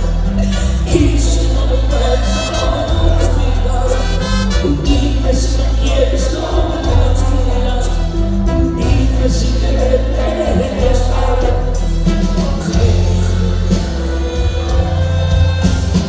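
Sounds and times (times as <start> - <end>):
drums with cymbals: 0.0 - 16.0
heavy bass: 0.0 - 16.0
live band music: 0.0 - 16.0
man singing: 0.0 - 16.0.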